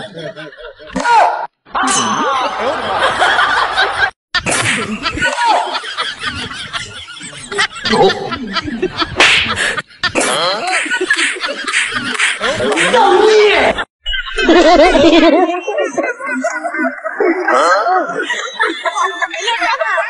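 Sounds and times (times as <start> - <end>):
people laughing and snickering: 0.0 - 20.0.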